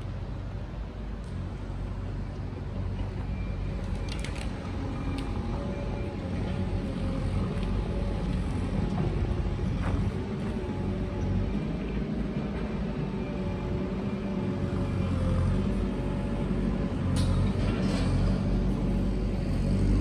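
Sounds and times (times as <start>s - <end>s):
heavy machinery engine rumbling: 0.0s - 20.0s.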